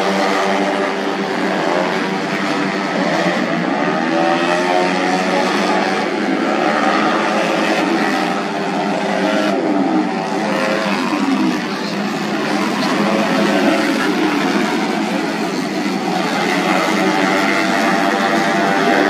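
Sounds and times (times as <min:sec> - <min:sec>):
racing scooter engines at high revs: 0:00.0 - 0:19.0.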